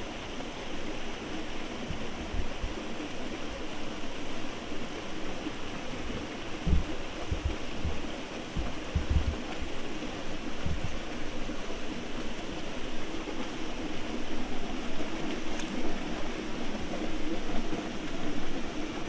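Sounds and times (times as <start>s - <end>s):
small waterfall splashing: 0.0s - 19.0s.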